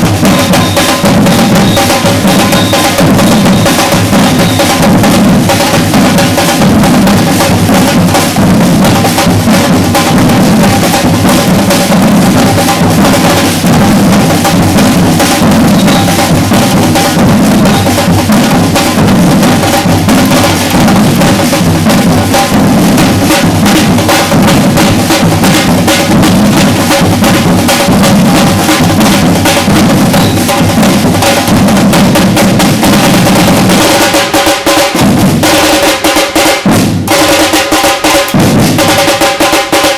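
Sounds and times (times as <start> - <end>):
deep bass drums: 0.0 - 33.8
rapid snare drum strokes: 0.0 - 39.9
samba percussion ensemble: 0.0 - 39.9.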